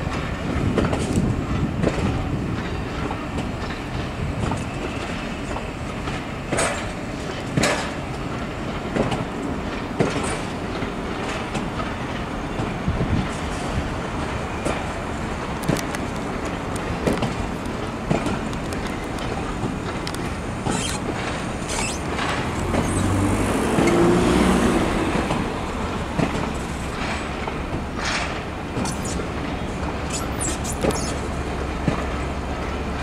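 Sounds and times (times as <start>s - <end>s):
train rumble: 0.0s - 33.0s
wheels clicking over rail joints: 0.0s - 33.0s.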